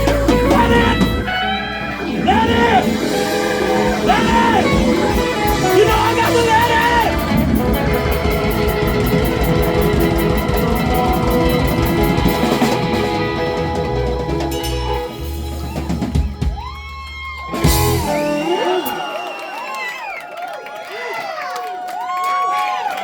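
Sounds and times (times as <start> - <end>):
live rock band playing: 0.0 - 19.2
crowd cheering: 0.0 - 23.0.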